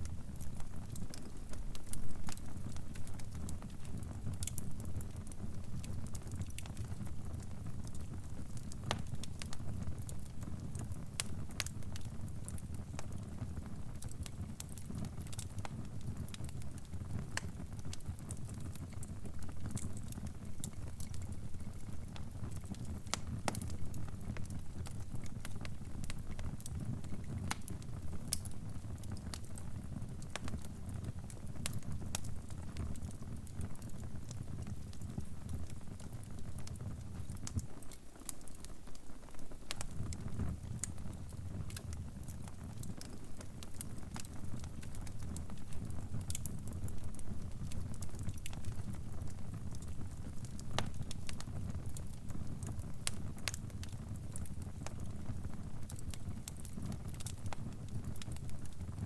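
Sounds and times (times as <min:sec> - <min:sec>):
fire crackling with pops: 0:00.0 - 0:59.0.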